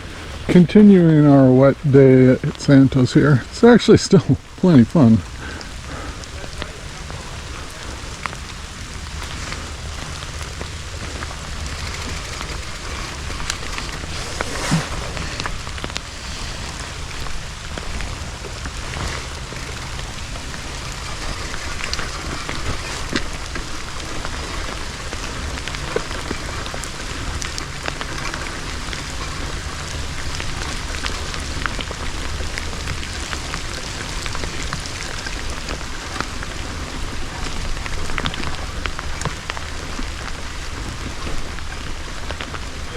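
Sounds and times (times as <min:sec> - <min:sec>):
rain falling: 0:00.0 - 0:42.9
raindrop ticks: 0:00.0 - 0:42.9
low rumble: 0:01.4 - 0:42.9.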